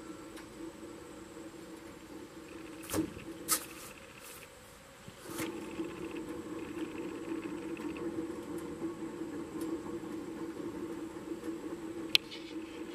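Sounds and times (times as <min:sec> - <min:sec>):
wheel spinning with whirring hum: 0:00.0 - 0:12.9.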